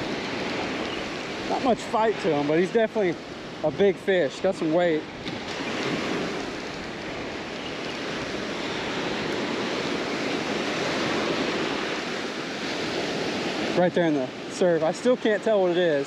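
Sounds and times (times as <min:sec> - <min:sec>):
surf breaking on sand: 0:00.0 - 0:16.0.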